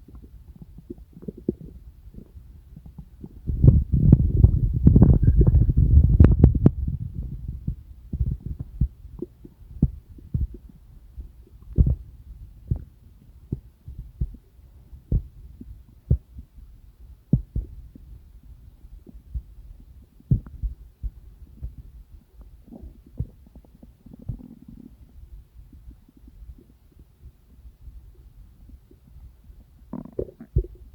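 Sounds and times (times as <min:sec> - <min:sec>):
low belly gurgle: 0:00.0 - 0:16.4, 0:17.4 - 0:27.6, 0:28.5 - 0:30.9
faint low hum: 0:00.0 - 0:30.9
soft low belly thumps: 0:00.0 - 0:30.9.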